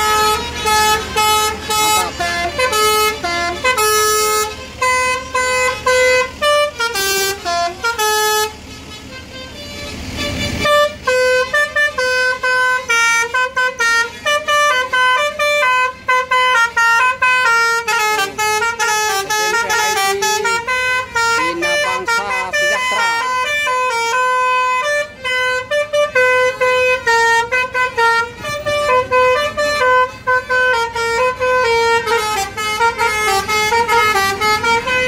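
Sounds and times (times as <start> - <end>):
bus musical horn tune: 0.0 - 35.0.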